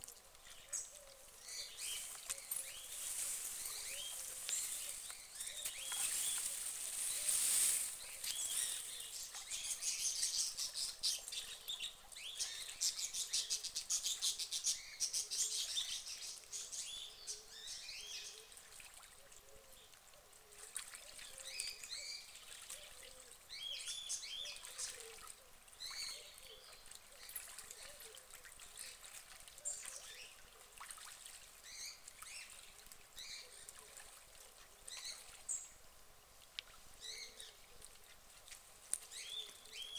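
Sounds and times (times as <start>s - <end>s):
outdoor background noise: 0.0s - 39.9s
faint birds chirping: 0.2s - 18.7s, 19.4s - 39.9s.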